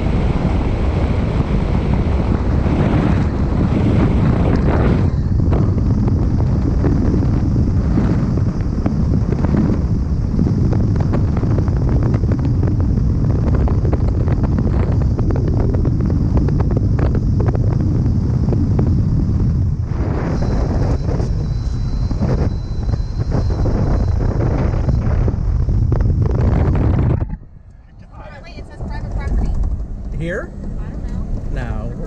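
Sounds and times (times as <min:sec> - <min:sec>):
car and tyre rumble: 0:00.0 - 0:32.0
wind buffeting microphone: 0:00.0 - 0:32.0.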